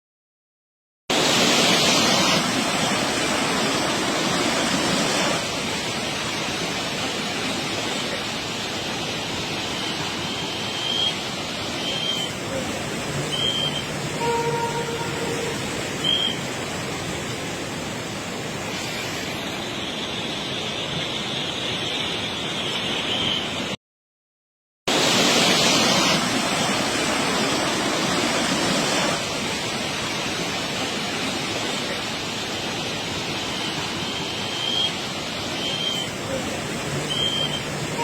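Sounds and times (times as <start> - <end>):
heavy rain pouring: 1.1 - 19.9, 24.9 - 38.0.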